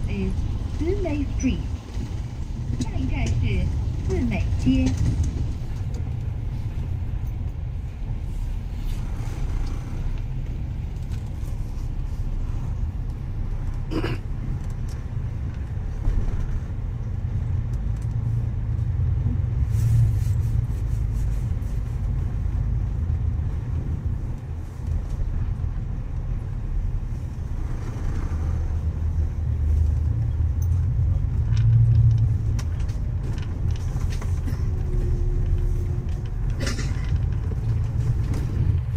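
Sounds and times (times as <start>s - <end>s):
bus engine and road rumble: 0.0s - 38.9s.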